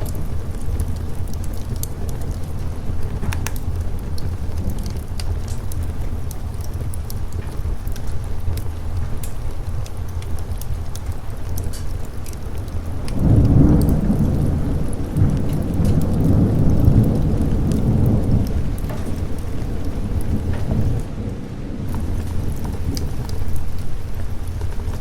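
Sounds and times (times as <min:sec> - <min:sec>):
steady rain: 0:00.0 - 0:25.0
thunder rumbling: 0:00.0 - 0:25.0.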